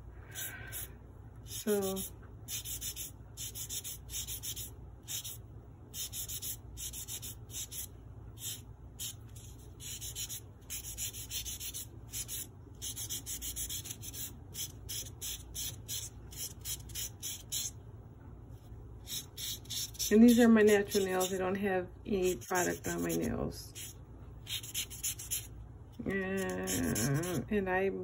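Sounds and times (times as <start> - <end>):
nail buffer rubbing fingernails: 1.5 - 17.8, 19.0 - 21.4, 22.2 - 25.5, 26.4 - 27.4.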